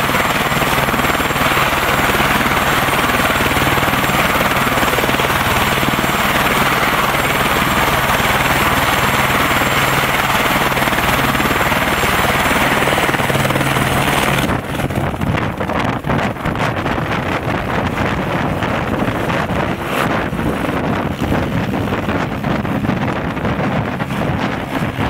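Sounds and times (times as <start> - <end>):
helicopter rotor hum: 0.0 - 25.0
wind buffeting microphone: 0.0 - 25.0.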